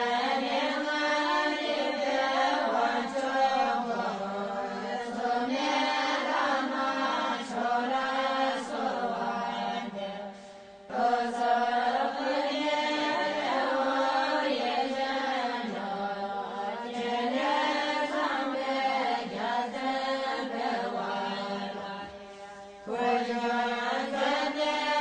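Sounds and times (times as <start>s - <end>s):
slow vocal chanting: 0.0s - 25.0s.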